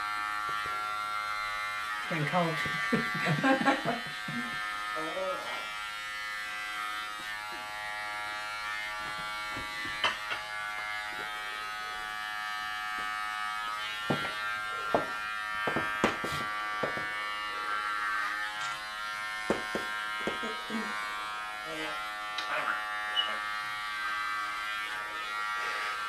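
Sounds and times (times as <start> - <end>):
electric hair clippers buzzing: 0.0 - 26.0.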